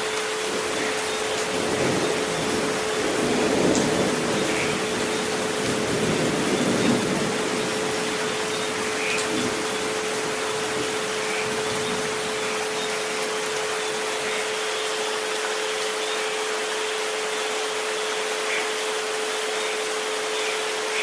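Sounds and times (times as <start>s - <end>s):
rain hiss: 0.0s - 21.0s.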